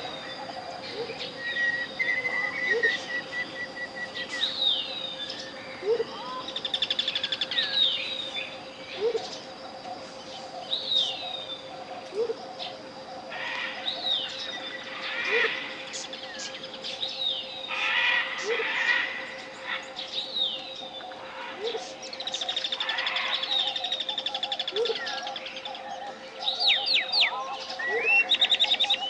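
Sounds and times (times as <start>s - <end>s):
rapid bird trill: 0.0s - 29.0s
steady pure tone: 0.0s - 29.0s.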